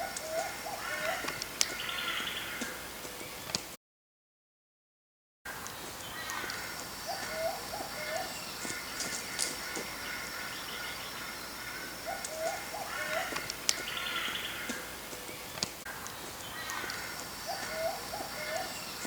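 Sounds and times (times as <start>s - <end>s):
birds calling high: 0.0s - 3.5s, 5.5s - 19.0s.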